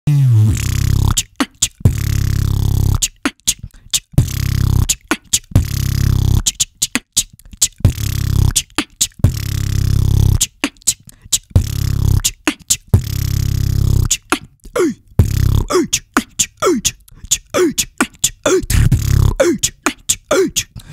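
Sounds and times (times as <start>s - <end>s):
beatboxing trap beat: 0.1s - 20.9s.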